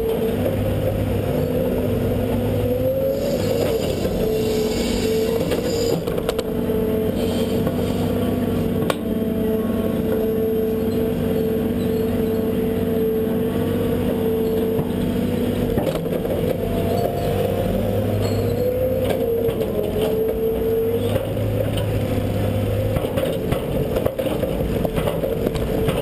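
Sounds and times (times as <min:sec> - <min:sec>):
excavator engine and hydraulics whine: 0:00.0 - 0:26.0.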